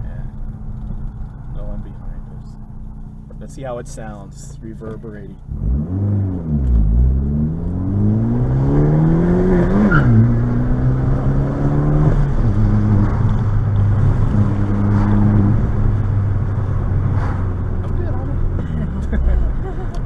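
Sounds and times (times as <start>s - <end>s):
sports car engine revving: 0.0s - 19.8s.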